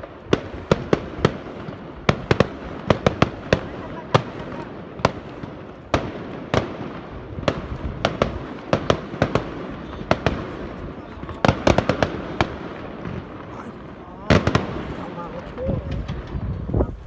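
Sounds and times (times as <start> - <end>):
fireworks bangs: 0.0 - 17.0
fireworks cracks: 0.0 - 17.0.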